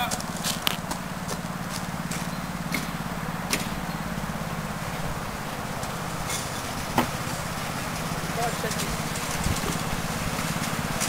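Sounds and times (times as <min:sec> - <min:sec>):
small locomotive engine chugging: 0:00.0 - 0:11.0.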